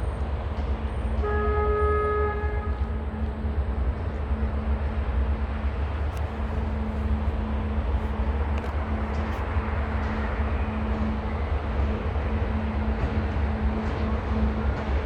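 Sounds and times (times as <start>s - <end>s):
train locomotive rumbling: 0.0s - 15.0s.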